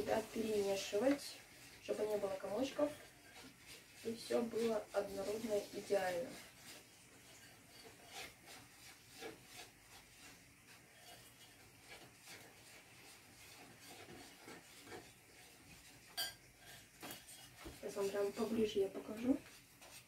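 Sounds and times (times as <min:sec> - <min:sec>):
whisk scraping a glass bowl: 0:00.0 - 0:20.0.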